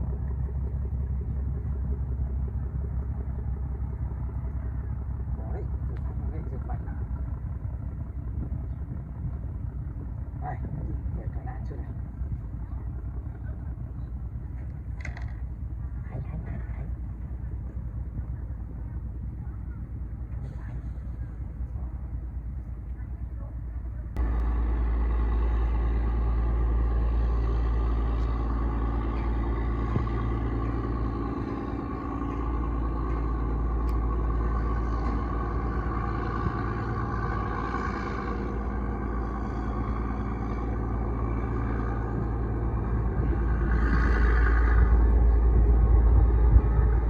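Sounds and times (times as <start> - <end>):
boat engine rumbling: 0.0 - 47.0.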